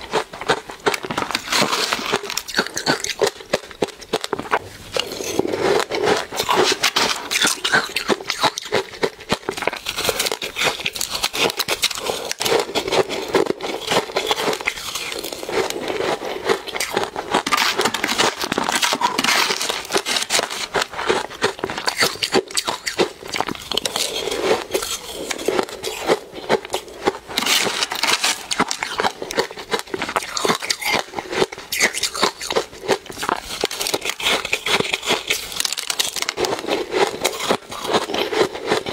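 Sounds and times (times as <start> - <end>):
crunching and chewing ice: 0.0 - 38.9
metal spoon scraping ice: 1.2 - 4.3, 4.9 - 38.9.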